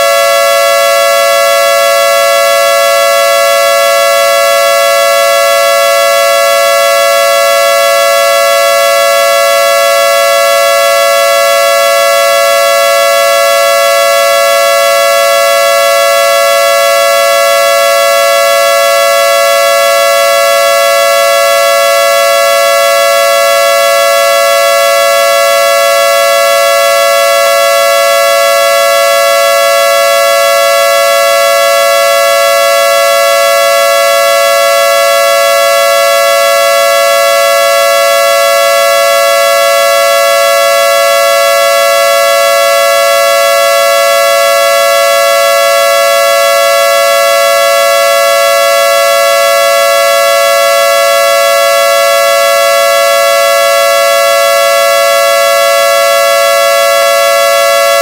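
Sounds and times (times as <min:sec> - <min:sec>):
synthesized air-raid siren: 0:00.0 - 0:58.0.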